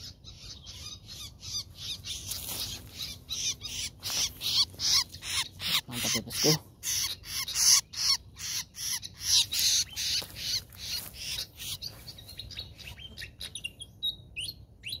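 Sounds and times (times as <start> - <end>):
bird harsh chirps: 0.0 - 15.0.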